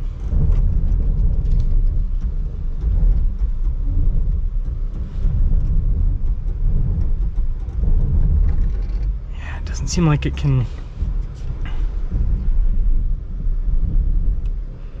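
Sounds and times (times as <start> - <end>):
engine rumbling up a slope: 0.0 - 15.0.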